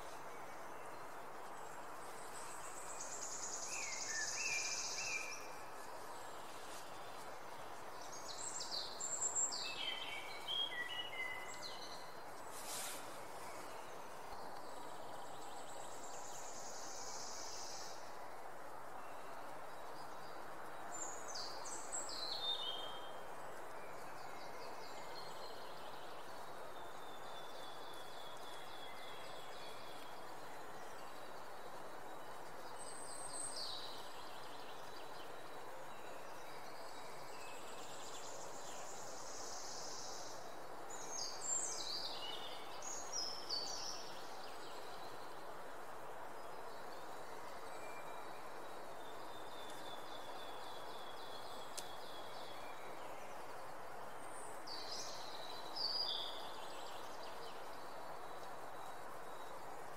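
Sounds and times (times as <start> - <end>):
outdoor background hiss: 0.0 - 59.9
songbirds singing: 0.0 - 59.9.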